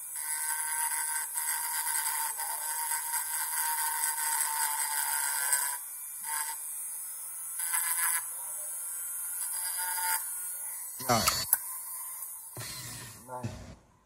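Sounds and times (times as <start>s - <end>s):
rotary tool grinding metal: 0.0s - 13.8s.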